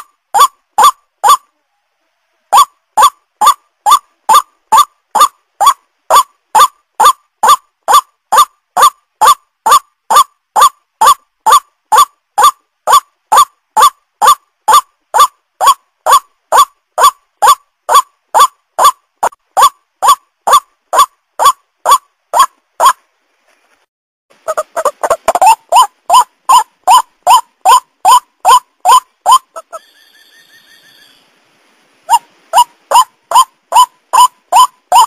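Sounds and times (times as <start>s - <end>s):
waterhen calling: 0.0s - 1.5s, 2.5s - 23.0s, 24.4s - 31.3s, 32.1s - 35.0s.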